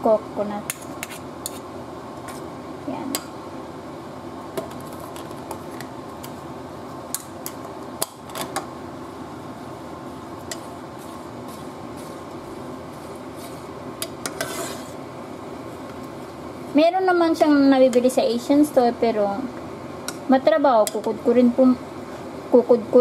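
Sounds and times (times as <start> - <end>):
fan hum: 0.0 - 23.0.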